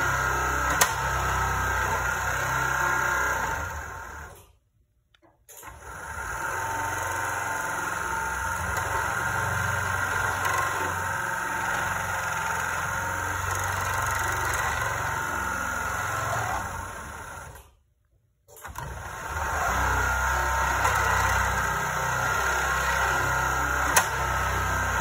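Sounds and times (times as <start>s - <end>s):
garage door opener motor humming: 0.0s - 4.8s, 5.4s - 25.0s.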